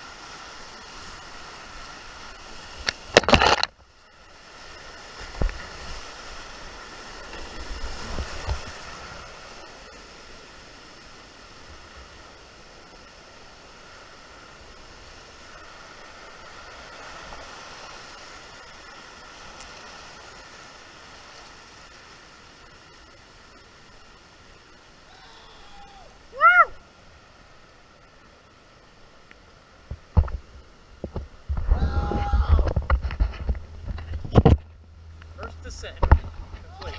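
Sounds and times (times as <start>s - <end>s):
rushing whitewater: 0.0s - 36.9s
water splashes: 0.0s - 36.9s.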